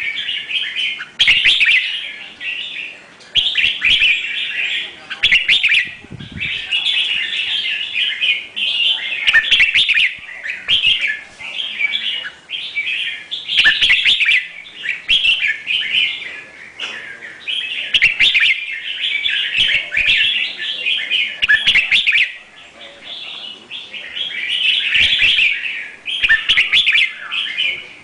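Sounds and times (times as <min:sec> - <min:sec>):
songbird chirping and singing: 0:00.0 - 0:28.0.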